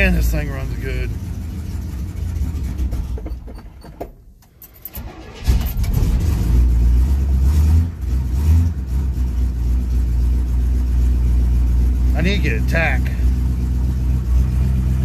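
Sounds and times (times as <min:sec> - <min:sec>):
pickup engine idling and revving: 0:00.0 - 0:03.9, 0:04.8 - 0:15.0.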